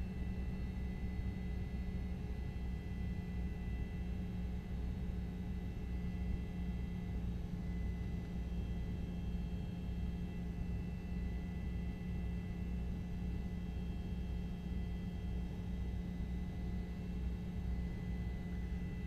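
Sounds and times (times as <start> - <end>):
helicopter engine and rotors: 0.0 - 19.0.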